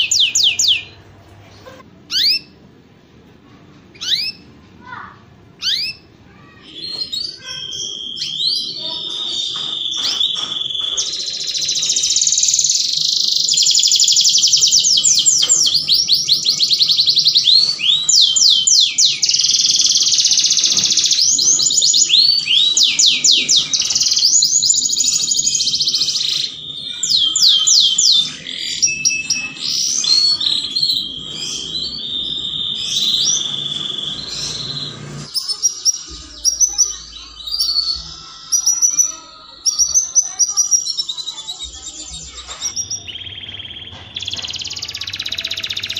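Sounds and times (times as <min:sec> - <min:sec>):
canary singing trills: 0:00.0 - 0:02.7, 0:03.8 - 0:45.9.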